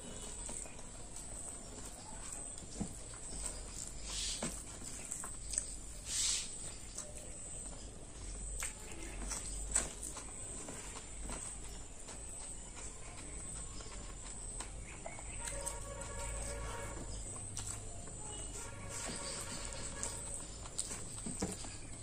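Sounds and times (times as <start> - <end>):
wet chewing clicks: 0.0 - 22.0.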